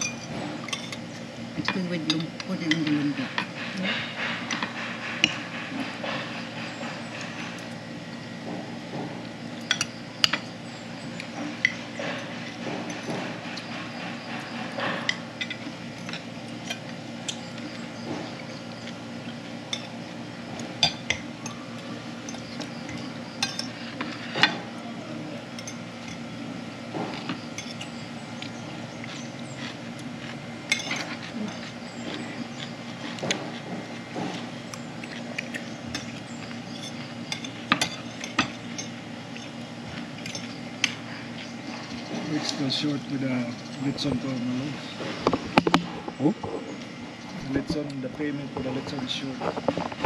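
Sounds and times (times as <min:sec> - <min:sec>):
background hum: 0:00.0 - 0:50.0.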